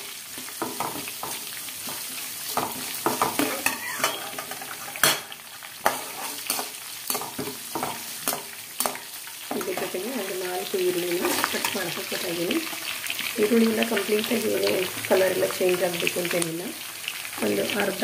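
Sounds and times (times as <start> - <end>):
spices sizzling in hot oil: 0.0 - 18.0.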